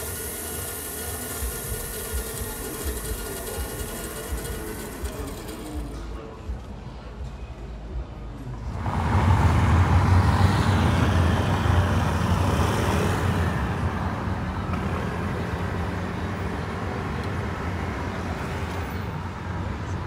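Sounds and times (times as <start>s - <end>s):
road traffic engine rumble: 0.0s - 7.2s, 7.8s - 20.0s.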